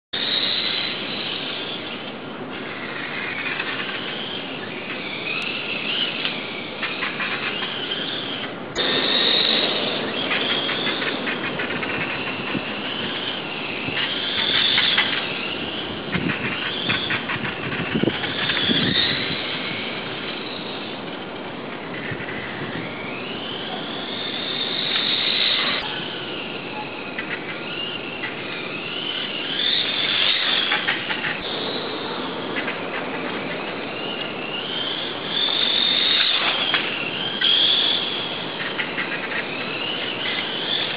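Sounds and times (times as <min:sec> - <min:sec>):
road noise: 0:00.1 - 0:40.9.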